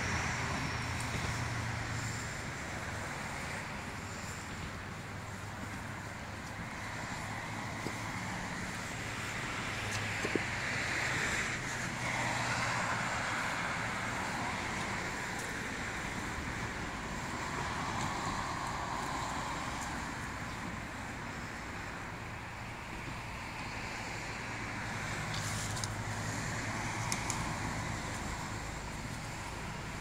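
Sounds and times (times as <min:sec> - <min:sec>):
car engines and tyre noise: 0:00.0 - 0:30.0.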